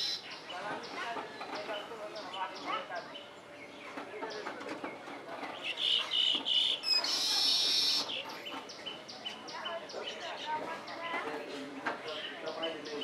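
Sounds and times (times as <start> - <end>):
birds chattering and chirping: 0.0 - 13.0.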